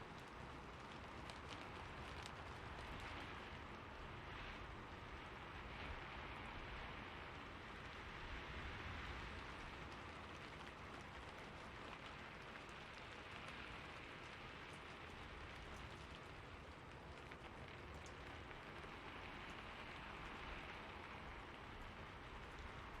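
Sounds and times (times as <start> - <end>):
faint rain drop ticks: 0.0 - 23.0
steady rain hiss: 0.0 - 23.0.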